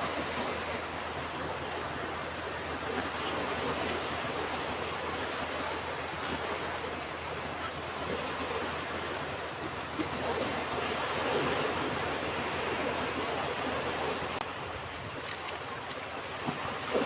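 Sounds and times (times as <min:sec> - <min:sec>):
ocean surf washing onto beach: 0:00.0 - 0:17.0.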